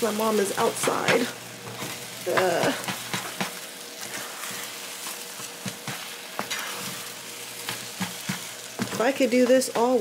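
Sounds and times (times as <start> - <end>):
eggs sizzling in a frying pan: 0.0 - 10.0
spatula scraping a pan: 0.8 - 9.9.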